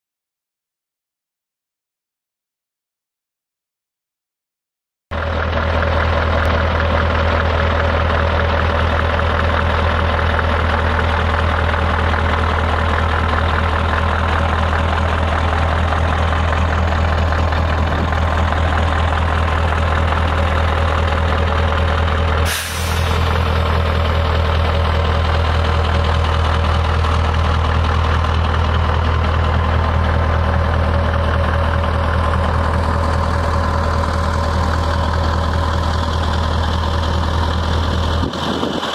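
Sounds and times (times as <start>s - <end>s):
diesel truck engine idling: 5.1s - 38.9s.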